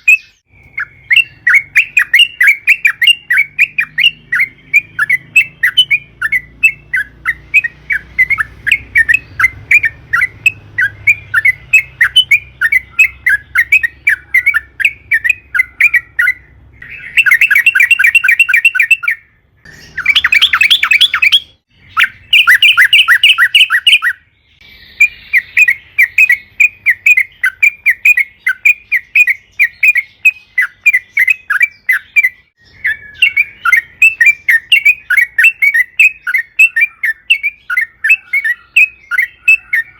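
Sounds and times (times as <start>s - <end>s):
bulbul chattering calls: 0.0s - 39.9s.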